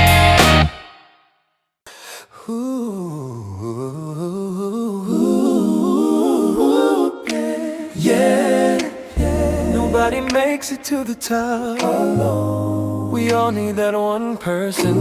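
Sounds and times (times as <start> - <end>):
a cappella vocal harmony: 2.5 - 15.0.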